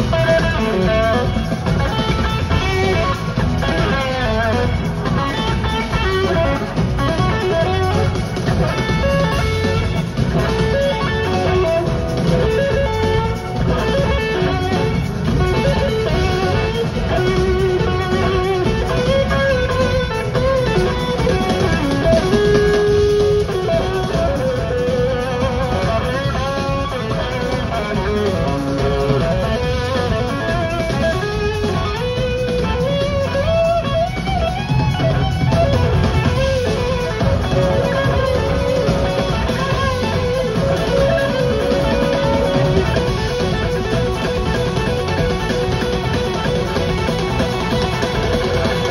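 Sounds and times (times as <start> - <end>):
electric guitars melodic notes: 0.0 - 48.9
live rock band playing: 0.0 - 48.9.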